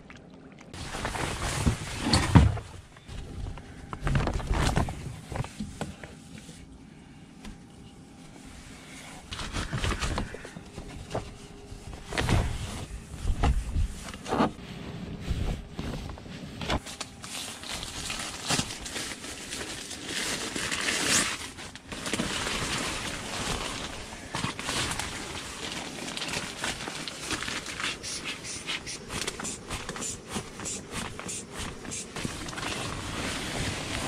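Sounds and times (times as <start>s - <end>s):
plastic tarpaulin rustling: 0.8s - 5.8s, 8.5s - 34.0s.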